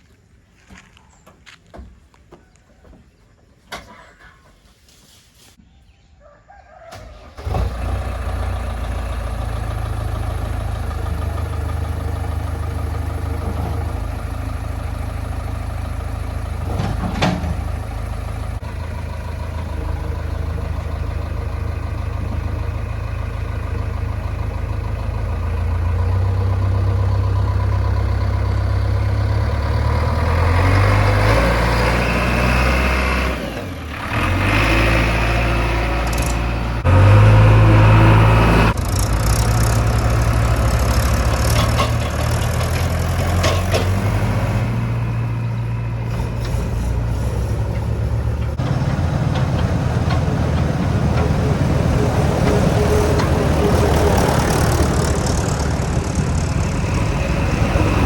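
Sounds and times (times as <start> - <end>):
heavy diesel engine running: 7.1 - 58.0.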